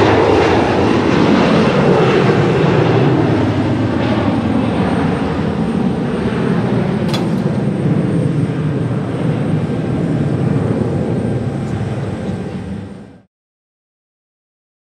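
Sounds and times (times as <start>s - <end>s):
jet engines rumbling: 0.0s - 13.3s.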